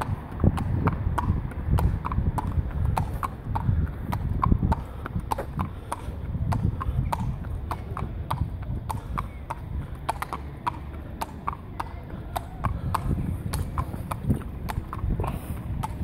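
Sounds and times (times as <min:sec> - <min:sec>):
horse hooves on tarmac: 0:00.0 - 0:16.0.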